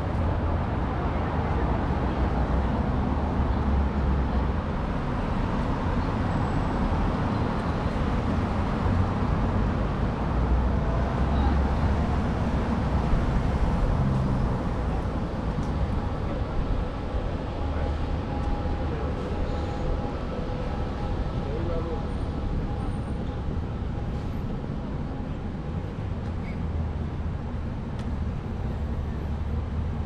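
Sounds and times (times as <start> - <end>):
city street traffic: 0.0 - 30.0.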